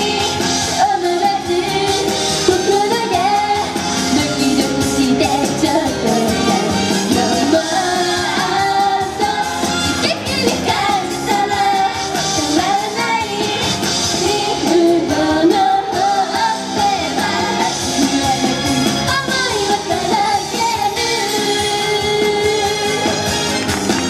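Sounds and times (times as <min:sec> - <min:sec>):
girl singing into microphone: 0:00.0 - 0:23.0
pop backing music: 0:00.0 - 0:24.0.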